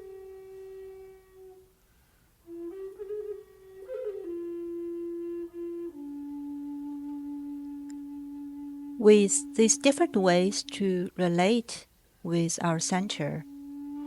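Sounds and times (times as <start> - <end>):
slow solo flute melody: 0.0 - 11.5, 12.3 - 14.0.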